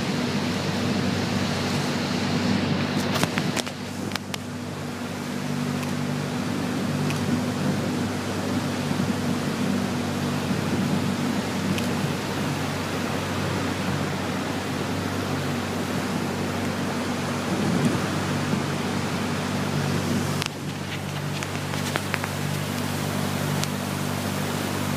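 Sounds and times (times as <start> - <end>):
boat engine running: 0.0 - 24.9
water rushing: 0.0 - 24.9.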